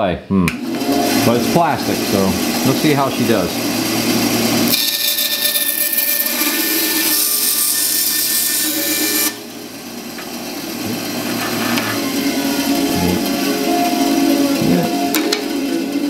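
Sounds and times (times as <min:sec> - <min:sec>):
bandsaw cutting plastic: 0:00.7 - 0:09.4, 0:10.1 - 0:16.0.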